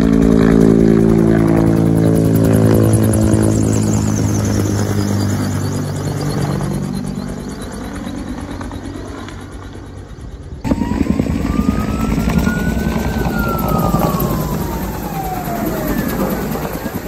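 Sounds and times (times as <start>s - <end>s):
rising and falling whine: 0.0s - 9.8s, 10.6s - 17.0s
helicopter rotor and engine: 0.0s - 17.0s
steady rumble: 0.0s - 17.0s.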